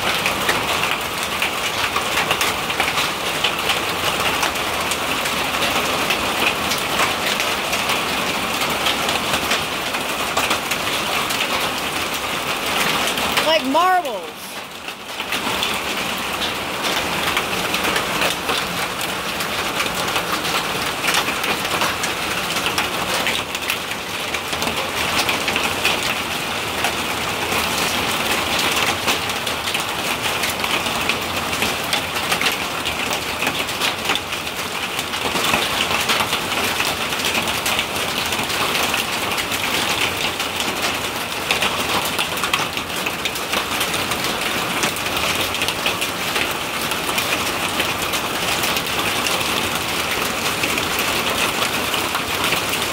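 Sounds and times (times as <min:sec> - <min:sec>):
hail and rain on a corrugated roof: 0:00.0 - 0:52.9.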